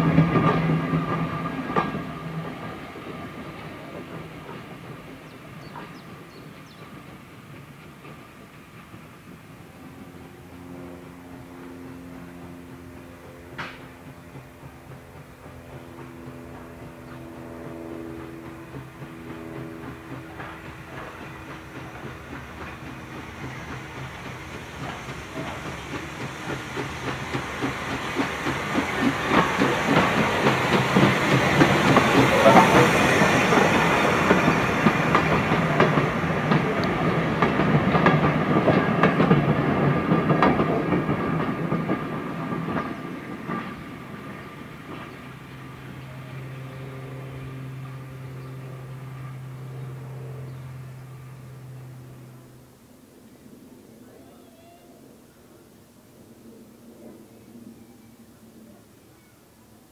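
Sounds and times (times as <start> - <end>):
steam train passing: 0.0 - 59.9.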